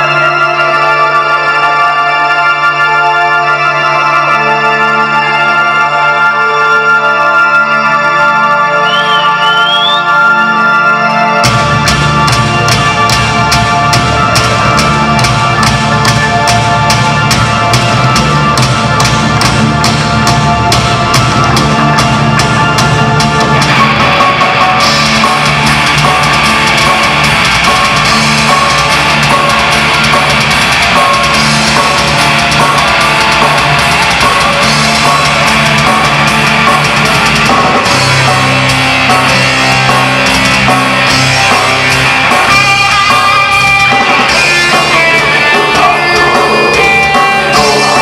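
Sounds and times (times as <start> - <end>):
heavy metal band playing: 0.0 - 48.0.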